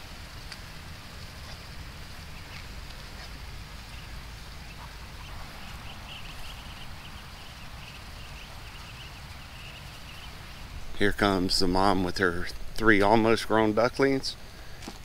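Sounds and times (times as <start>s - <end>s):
ducklings peeping: 0.0s - 15.0s
low rumble and hiss: 0.0s - 15.0s.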